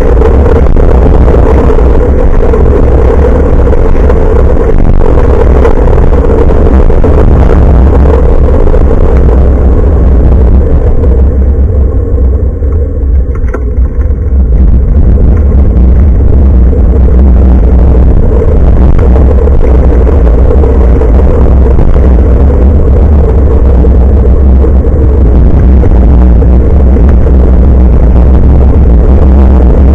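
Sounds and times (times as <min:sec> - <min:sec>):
wind rumbling on microphone: 0:00.0 - 0:29.9.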